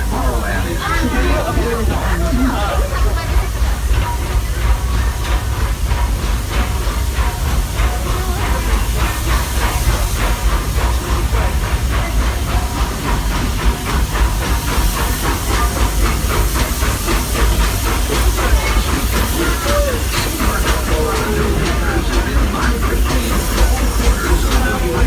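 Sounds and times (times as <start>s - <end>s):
low rumble of moving train: 0.0s - 25.0s
steam locomotive exhaust chuffing: 0.0s - 25.0s.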